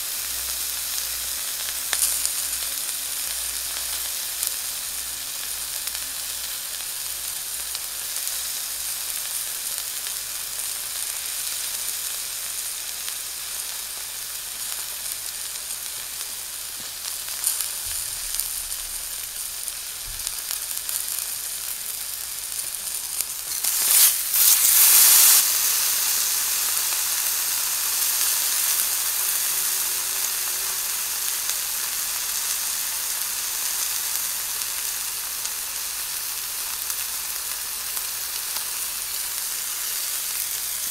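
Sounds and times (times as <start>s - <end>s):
steak sizzling in a skillet: 0.0s - 40.9s.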